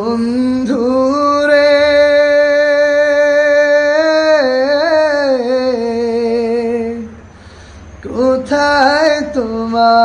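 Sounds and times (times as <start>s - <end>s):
man singing unaccompanied: 0.0s - 7.3s, 8.0s - 10.0s.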